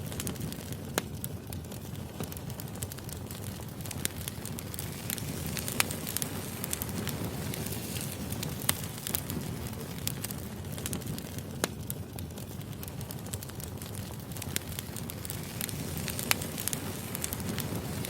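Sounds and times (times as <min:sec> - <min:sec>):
firewood burning with low rush: 0:00.0 - 0:18.0
sharp pops of burning wood: 0:00.0 - 0:18.0.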